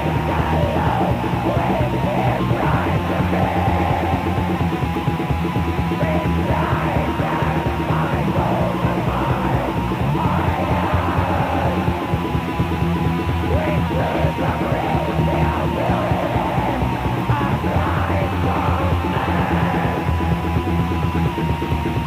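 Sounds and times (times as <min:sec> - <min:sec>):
harsh yelled vocals: 0:00.0 - 0:21.2
distorted guitars and drums: 0:00.0 - 0:22.0.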